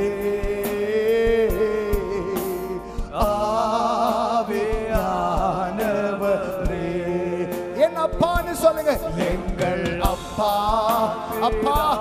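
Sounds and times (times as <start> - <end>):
instrumental accompaniment: 0.0 - 12.0
person singing worship song: 0.0 - 12.0
steady percussive beat: 0.0 - 12.0.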